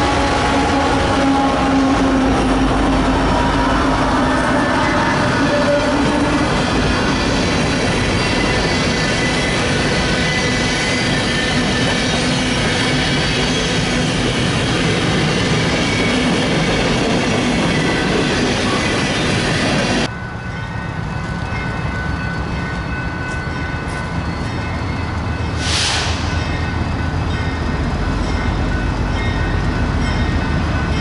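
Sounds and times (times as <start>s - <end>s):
freight train clattering past: 0.0s - 31.0s.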